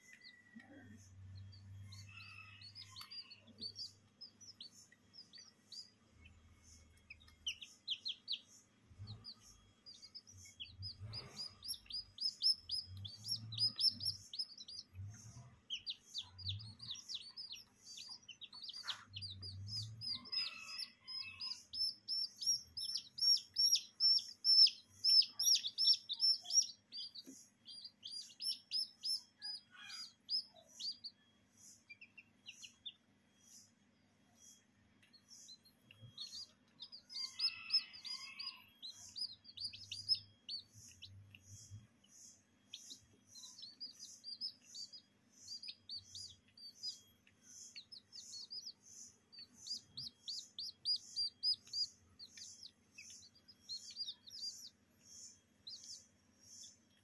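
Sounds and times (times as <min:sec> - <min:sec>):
chicks peeping: 0:00.0 - 0:33.8, 0:34.6 - 0:57.0.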